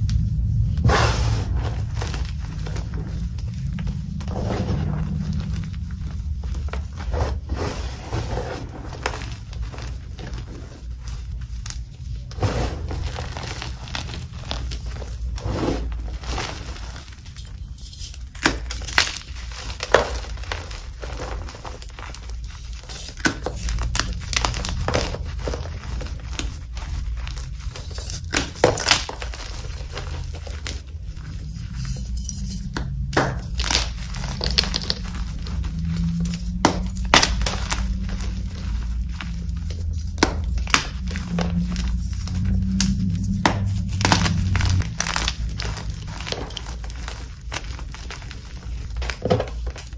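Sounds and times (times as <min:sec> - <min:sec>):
chalk blocks crunching in hands: 0:00.0 - 0:49.9.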